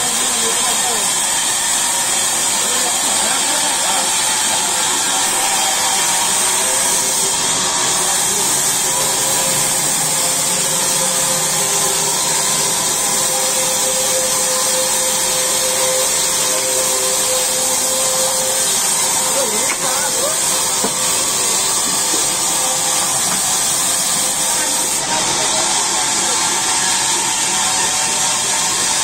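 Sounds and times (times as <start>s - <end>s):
band saw cutting through a log: 0.0s - 29.0s.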